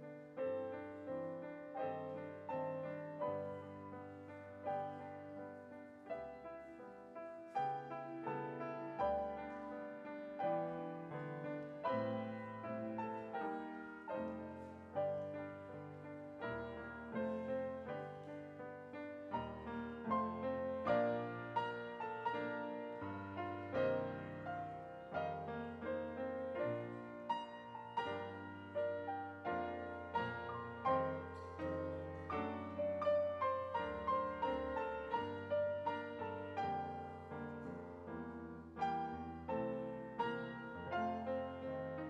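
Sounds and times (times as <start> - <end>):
slow gentle piano piece: 0.0 - 42.0.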